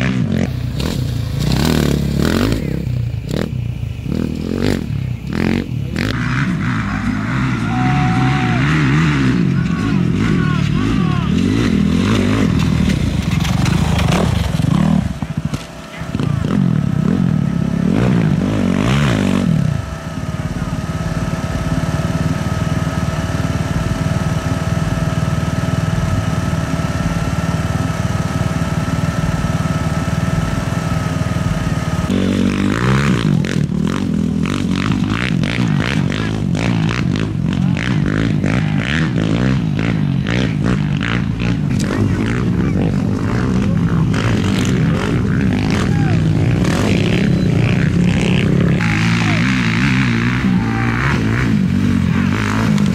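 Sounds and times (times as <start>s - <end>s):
engine idling with thin whine: 0.0s - 52.9s
motorcycle revving past: 0.0s - 52.9s
rough rattling engine: 0.0s - 52.9s.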